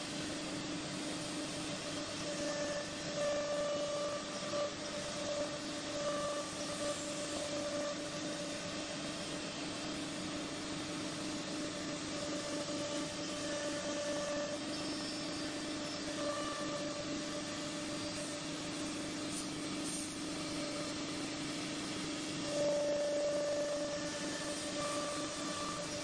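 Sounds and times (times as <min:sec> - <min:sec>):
router spindle whine: 0:00.0 - 0:26.0.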